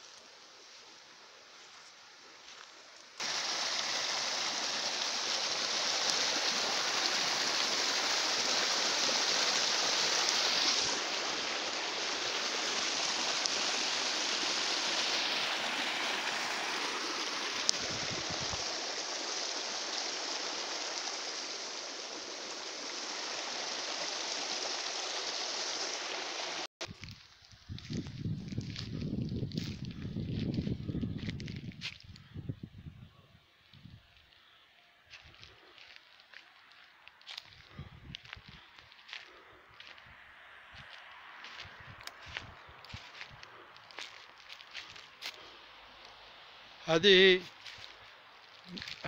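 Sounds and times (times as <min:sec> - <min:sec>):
stream running over stones: 0:00.0 - 0:30.6, 0:35.1 - 0:49.0.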